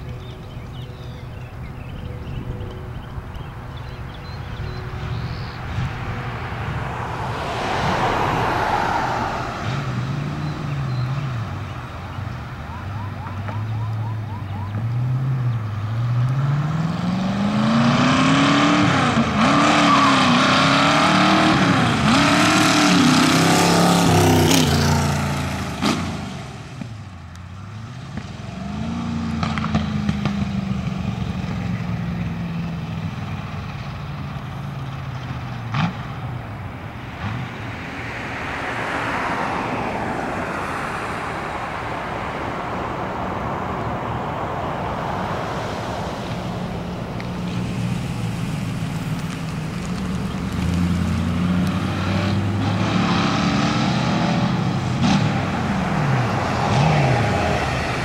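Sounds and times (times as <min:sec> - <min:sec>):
vehicle passing: 0:00.0 - 0:58.0.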